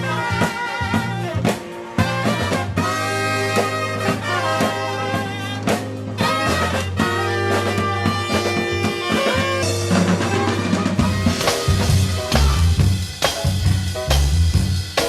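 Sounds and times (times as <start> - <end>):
swing jazz band: 0.0 - 15.0.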